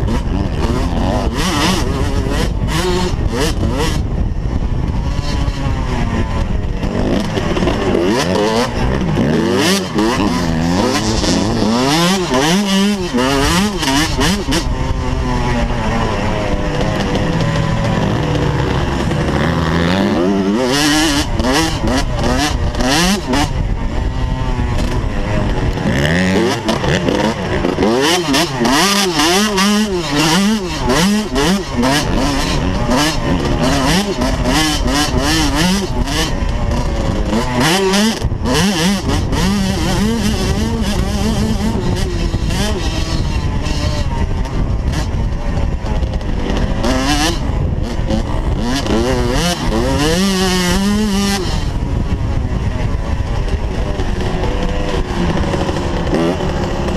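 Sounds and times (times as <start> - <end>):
dirt bike engine revving: 0.0 - 56.9
gusty wind noise: 0.0 - 56.9.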